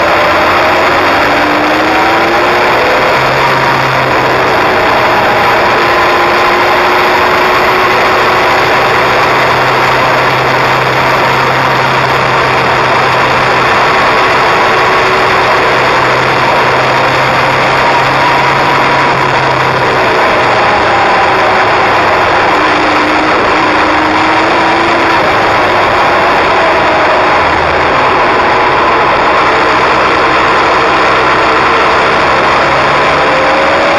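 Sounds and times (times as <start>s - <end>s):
motorcycle engine riding: 0.0s - 33.9s.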